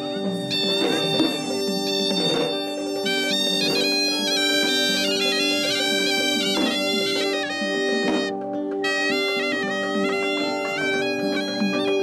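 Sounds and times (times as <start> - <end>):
double-reed shawm melody: 0.0 - 12.0.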